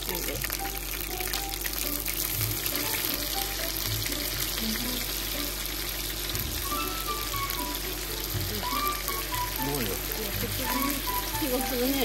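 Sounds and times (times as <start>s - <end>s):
food sizzling on hot plates: 0.0s - 12.0s.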